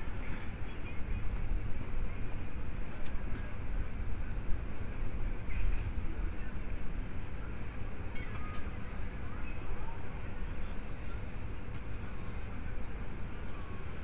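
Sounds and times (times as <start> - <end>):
murmur of distant voices: 0.0 - 14.0
steady low rumble: 0.0 - 14.0.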